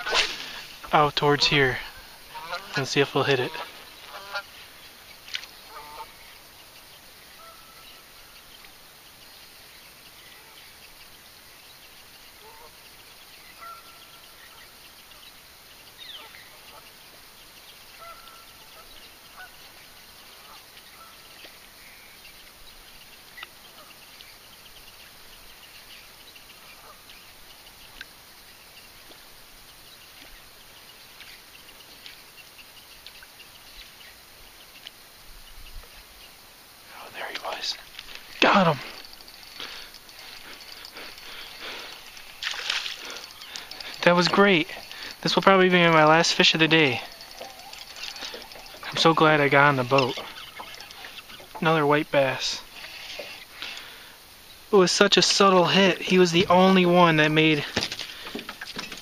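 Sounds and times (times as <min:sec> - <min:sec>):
faint bird calls: 0:00.0 - 0:54.8
steady low hiss: 0:00.0 - 0:59.0.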